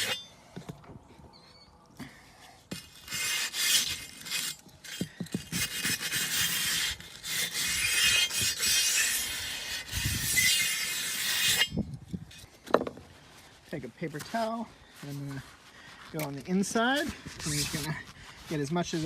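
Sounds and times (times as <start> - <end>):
wire brush scrubbing rusty metal: 0.0 - 0.3, 2.7 - 12.5, 13.2 - 19.0.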